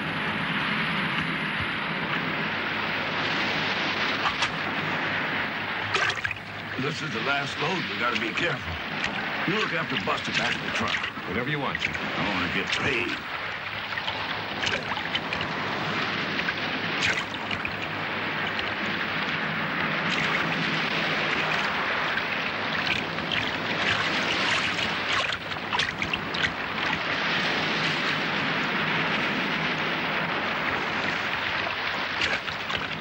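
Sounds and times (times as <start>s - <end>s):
low steady hum: 0.0s - 33.0s
sea water lapping and splashing: 1.6s - 33.0s.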